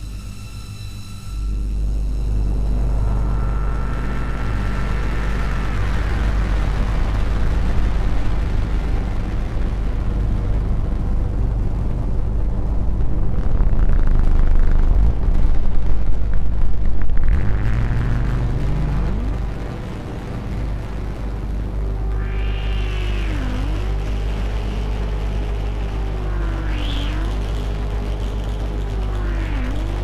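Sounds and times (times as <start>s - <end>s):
rumbling noise drone: 0.0s - 30.0s.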